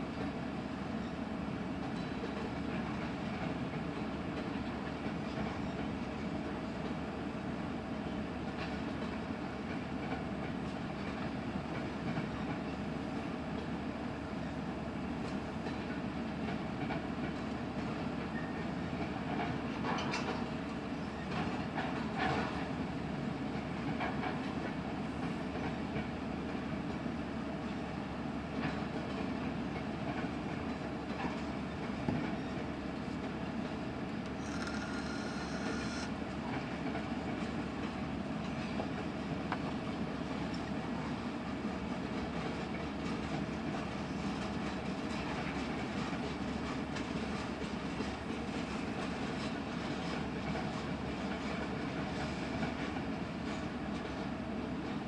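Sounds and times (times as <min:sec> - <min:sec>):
train wheels clacking on rails: 0:01.0 - 0:55.0.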